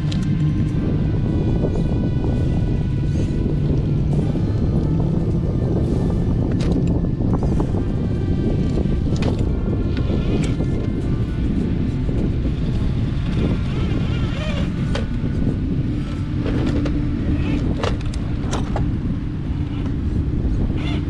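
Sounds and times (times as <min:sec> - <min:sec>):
electric motor whining: 0:00.0 - 0:21.0
wind on microphone: 0:00.0 - 0:21.0.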